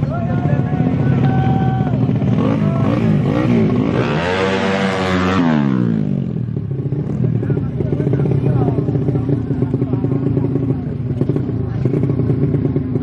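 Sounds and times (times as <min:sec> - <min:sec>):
small motorcycle engines revving: 0:00.0 - 0:13.0.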